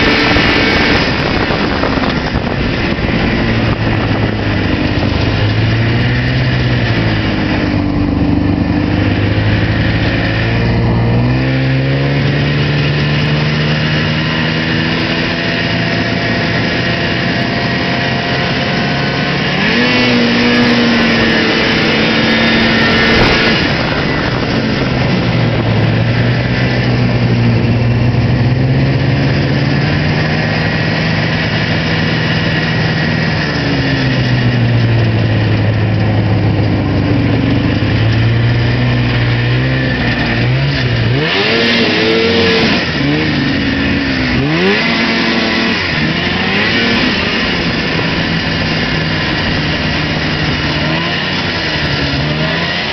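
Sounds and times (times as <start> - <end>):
loud rushing noise: 0.0 - 52.9
snowmobile engine running: 0.0 - 52.9.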